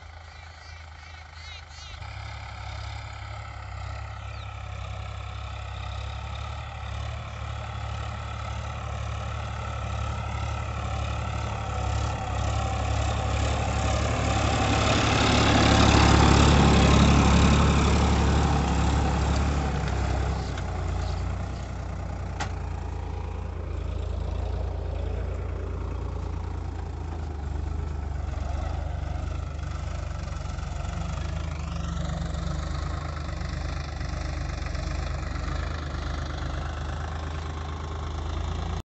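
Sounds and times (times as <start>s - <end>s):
tractor diesel engine running: 0.0s - 38.8s.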